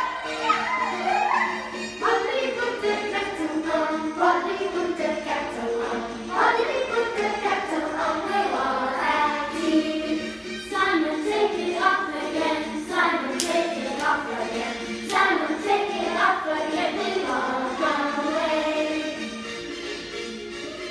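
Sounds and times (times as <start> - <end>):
children singing in chorus: 0.0 - 19.2.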